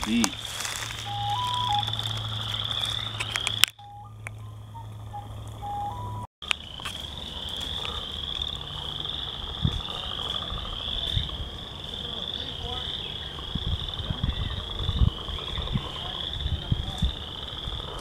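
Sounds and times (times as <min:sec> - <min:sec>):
frogs calling in trills: 0:00.0 - 0:18.0.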